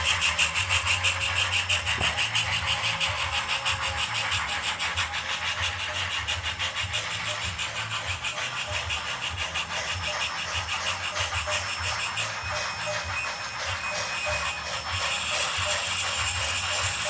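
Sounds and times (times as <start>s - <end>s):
model train motor hum: 0.0s - 17.0s
rhythmic ticking: 0.0s - 17.0s.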